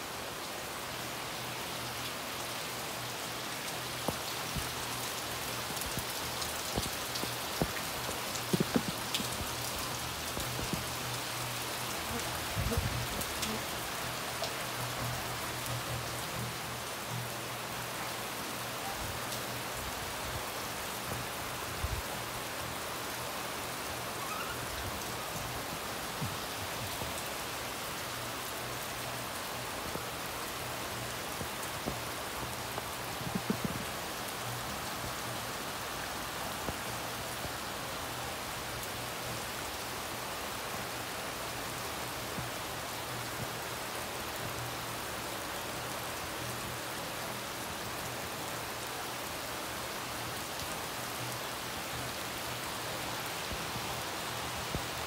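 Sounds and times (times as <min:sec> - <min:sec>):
rain falling on wet ground: 0:00.0 - 0:55.0.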